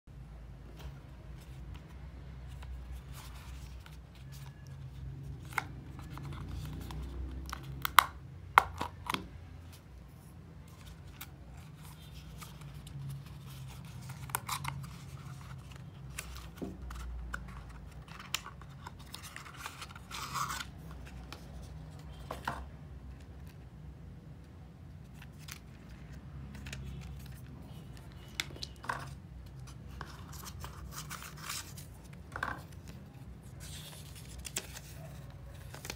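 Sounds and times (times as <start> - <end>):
card rustling: 0.6 - 23.6, 25.0 - 35.9.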